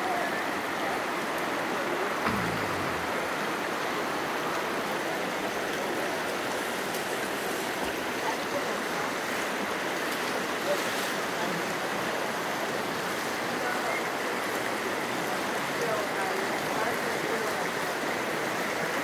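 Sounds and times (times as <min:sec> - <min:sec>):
river flowing over rocks: 0:00.0 - 0:19.0.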